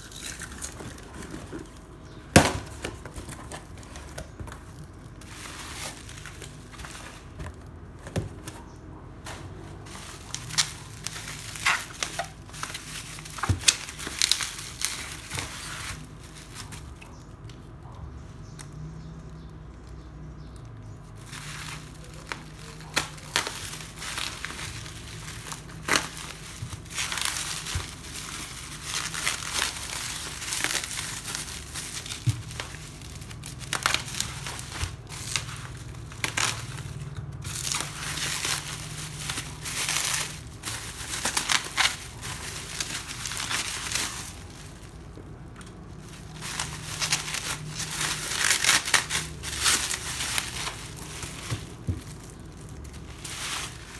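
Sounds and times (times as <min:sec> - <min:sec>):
packaging crinkling and rustling: 0:00.0 - 0:53.9.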